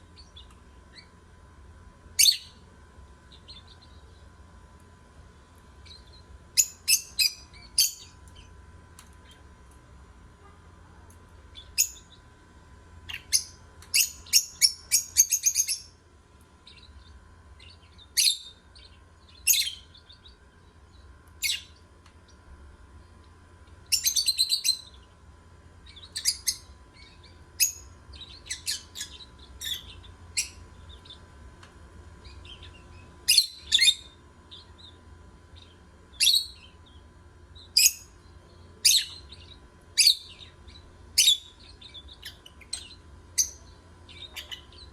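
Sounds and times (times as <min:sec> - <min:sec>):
lovebirds chirping: 0:00.0 - 0:01.2, 0:02.2 - 0:02.6, 0:03.2 - 0:04.4, 0:05.4 - 0:09.5, 0:11.4 - 0:12.4, 0:13.0 - 0:16.0, 0:16.6 - 0:25.2, 0:25.8 - 0:31.4, 0:32.2 - 0:44.9.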